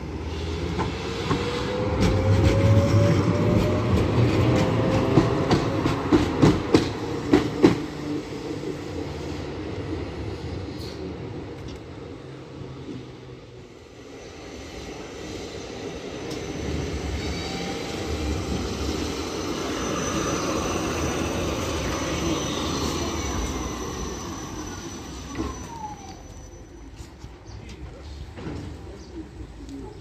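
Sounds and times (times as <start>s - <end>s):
tram rolling on rails: 0.0s - 30.0s
tram clack: 0.2s - 13.4s, 14.9s - 30.0s.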